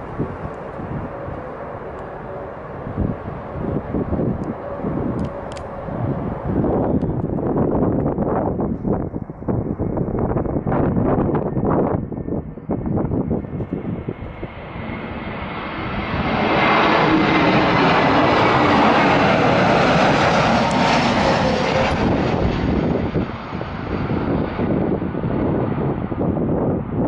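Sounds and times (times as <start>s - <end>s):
jet airliner passing: 0.0s - 27.0s
wind buffeting microphone: 0.0s - 27.0s.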